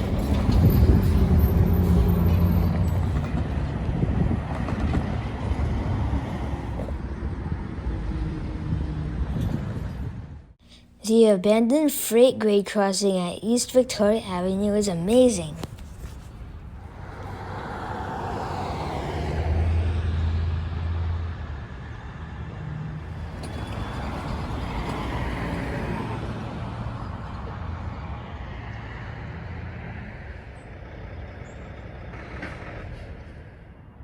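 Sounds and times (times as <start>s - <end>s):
vehicles passing: 0.0s - 10.6s, 13.7s - 34.0s.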